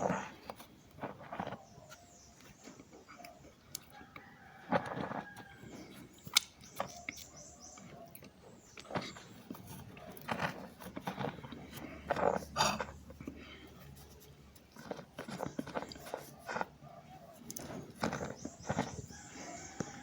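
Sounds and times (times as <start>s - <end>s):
cornstarch crunching and squeaking: 0.0s - 20.0s.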